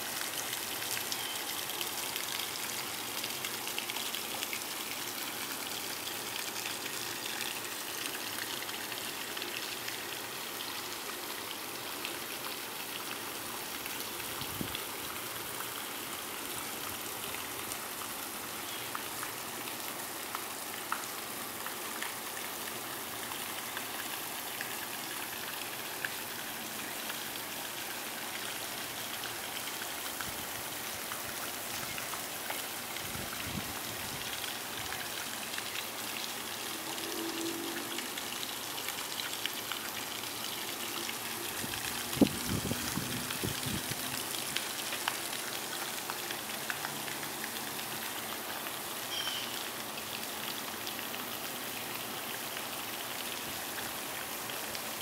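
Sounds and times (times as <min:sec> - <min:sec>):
even outdoor hiss: 0:00.0 - 0:55.0.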